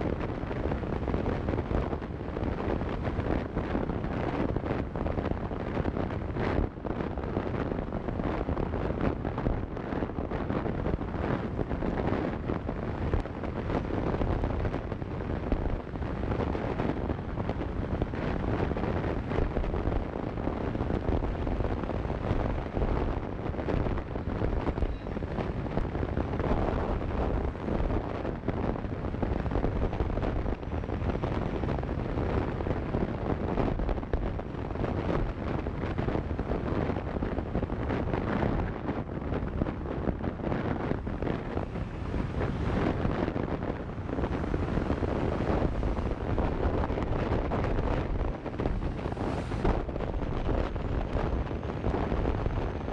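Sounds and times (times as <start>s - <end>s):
road noise: 0.0s - 52.9s
wind buffeting microphone: 0.0s - 52.9s.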